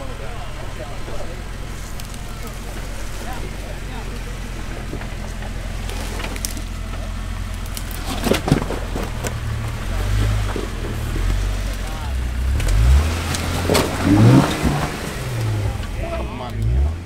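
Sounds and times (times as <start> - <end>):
vehicle engine running: 0.0 - 17.0
knocks and clatters: 1.6 - 16.6.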